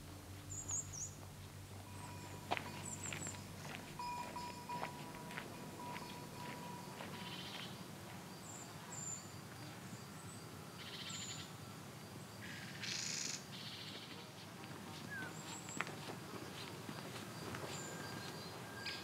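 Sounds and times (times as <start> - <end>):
small birds chirping and trilling: 0.4 - 1.2, 1.9 - 14.2, 14.9 - 19.0.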